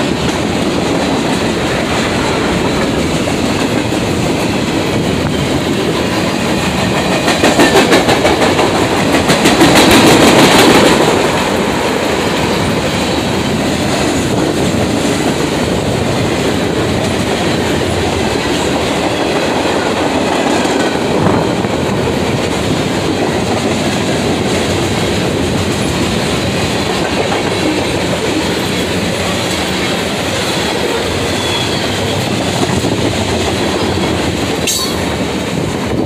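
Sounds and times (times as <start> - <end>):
freight train wheels on rail: 0.0 - 36.0.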